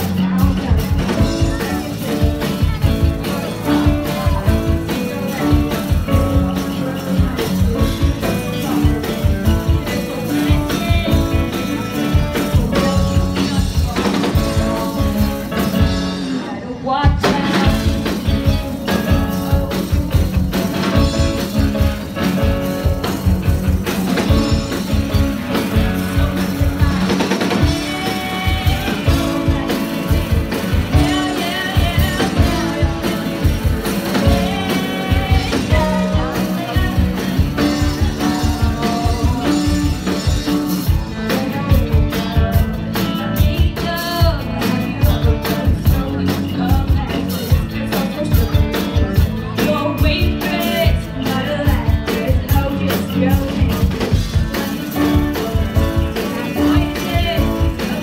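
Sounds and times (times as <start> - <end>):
drum kit with cymbals: 0.0 - 58.0
electric bass: 0.0 - 58.0
electric guitar: 0.0 - 58.0
live rock band playing: 0.0 - 58.0
person singing into microphone: 0.0 - 58.0.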